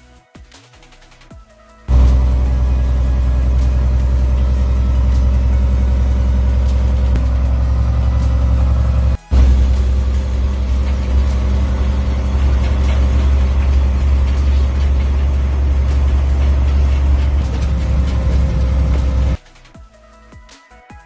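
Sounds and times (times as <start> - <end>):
tractor engine humming: 1.9 - 19.4.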